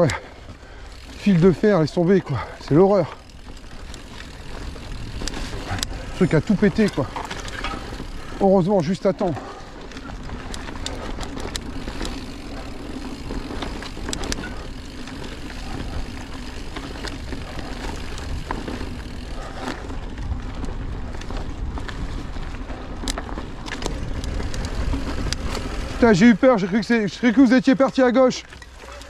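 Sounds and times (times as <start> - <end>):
bike rattling and clicking: 0.0 - 29.0
wind and tyre rumble: 0.0 - 29.0.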